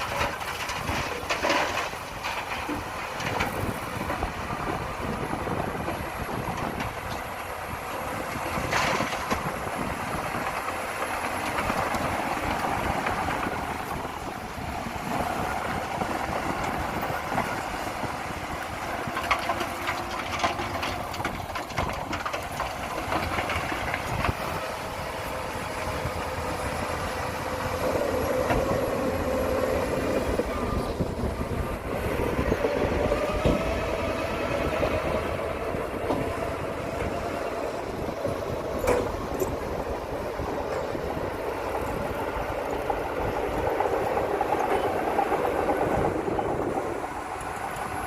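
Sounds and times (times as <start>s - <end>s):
bulldozer diesel engine running: 0.0s - 48.0s
steel tracks rattling and clanking: 0.0s - 48.0s.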